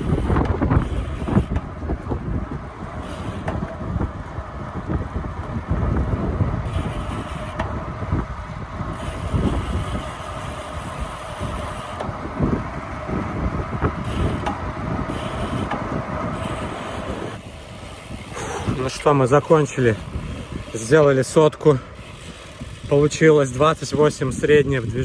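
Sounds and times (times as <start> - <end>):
hum of moving bike: 0.0 - 25.0
wind buffeting microphone: 0.0 - 25.0.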